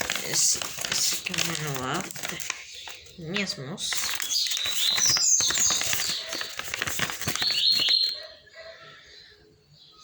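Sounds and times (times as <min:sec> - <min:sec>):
packaging rustling and crinkling: 0:00.0 - 0:08.2.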